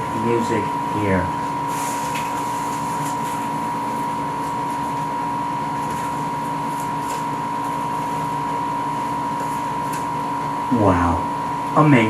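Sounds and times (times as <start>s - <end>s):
high-pitched steady hum: 0.0s - 12.0s.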